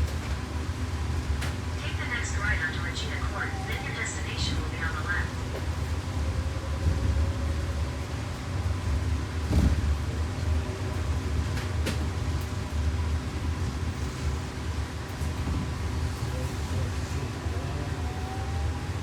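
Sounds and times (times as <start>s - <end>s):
road rumble: 1.5s - 19.0s.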